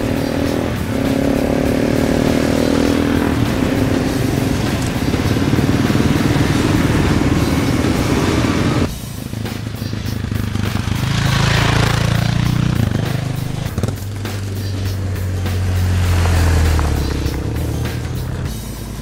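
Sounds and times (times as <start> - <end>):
motorcycle engines revving: 0.0 - 19.0
music: 0.0 - 19.0.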